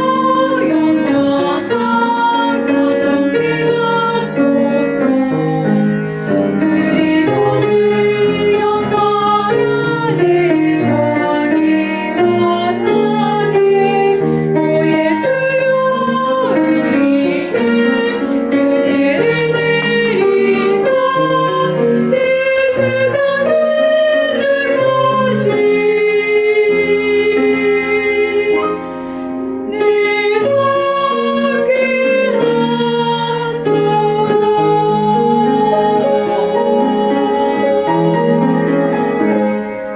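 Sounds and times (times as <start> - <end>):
piano accompaniment: 0.0 - 39.9
soprano singing: 0.0 - 39.9.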